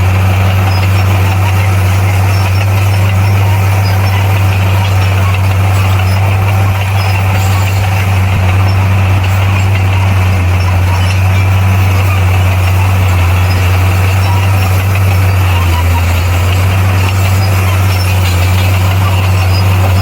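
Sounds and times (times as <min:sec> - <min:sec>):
bulldozer engine droning: 0:00.0 - 0:20.0.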